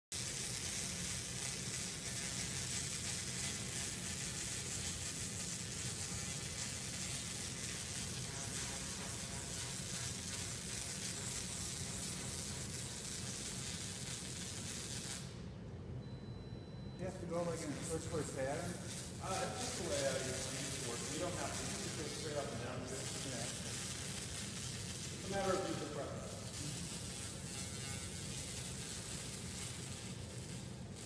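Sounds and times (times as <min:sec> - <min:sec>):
laser crackling hiss on stone: 0:00.1 - 0:15.4, 0:17.3 - 0:31.0.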